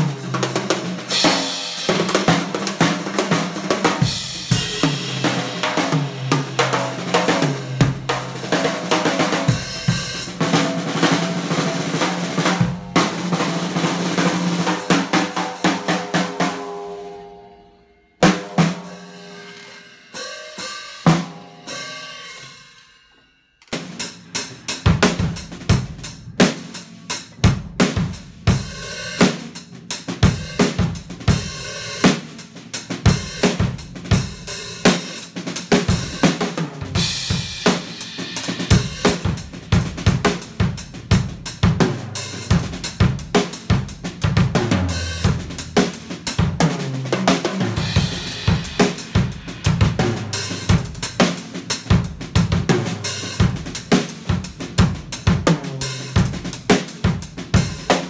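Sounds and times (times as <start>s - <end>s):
drum kit playing: 0.0s - 17.2s, 18.2s - 58.0s.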